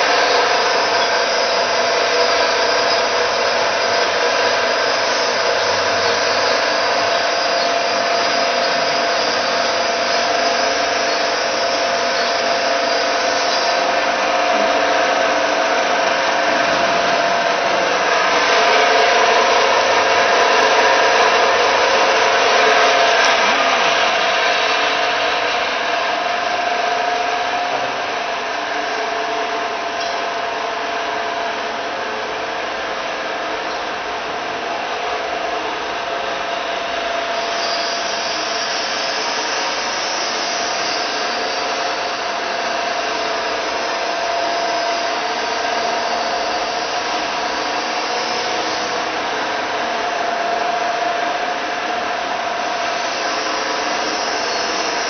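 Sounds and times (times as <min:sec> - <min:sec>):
mixer motor humming and whining: 0:00.0 - 0:55.0.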